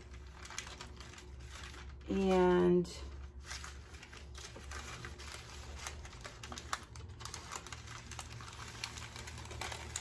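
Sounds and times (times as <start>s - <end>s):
paper peeling crackles: 0.0s - 10.0s.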